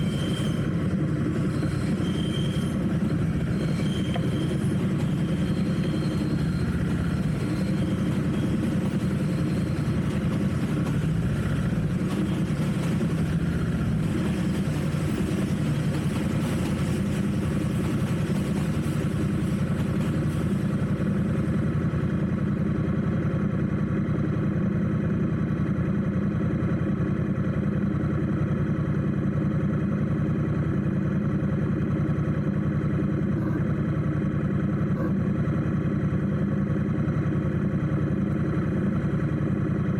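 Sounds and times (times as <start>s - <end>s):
motorcycle engine at low revs: 2.8s - 39.9s.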